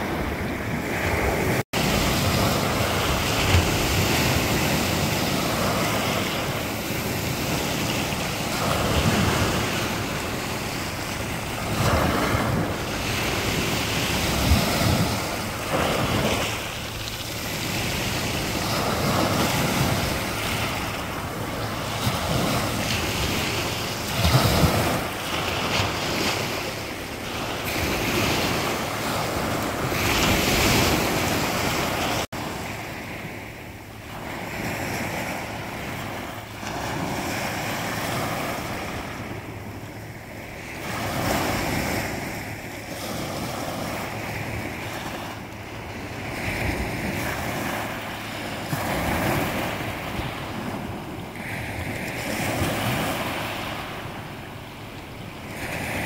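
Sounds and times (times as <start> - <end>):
waves washing up a pebbly shore: 0.0 - 56.0
wind rumbling on microphone: 0.0 - 56.0.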